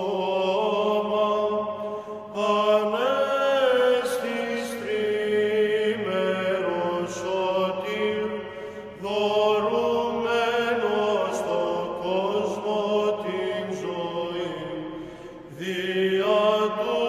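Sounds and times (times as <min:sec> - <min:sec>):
voices chanting slow melody: 0:00.0 - 0:17.0.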